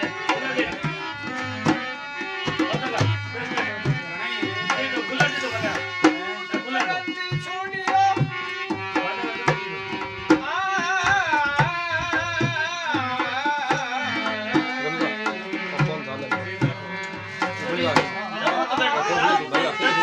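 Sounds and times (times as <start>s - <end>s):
hand drum rhythm: 0.0s - 20.0s
ornamented folk melody: 0.0s - 20.0s.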